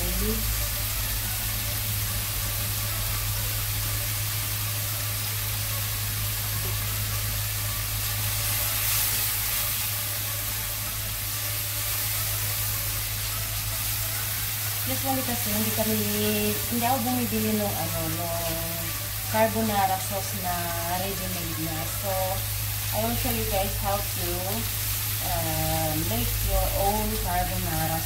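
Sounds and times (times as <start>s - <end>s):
bacon sizzling in a frying pan: 0.0s - 28.0s.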